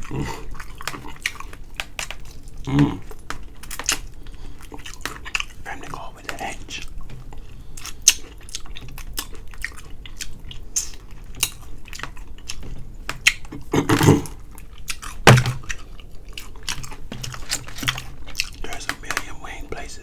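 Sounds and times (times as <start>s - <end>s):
chewing crispy chicken: 0.0s - 20.0s.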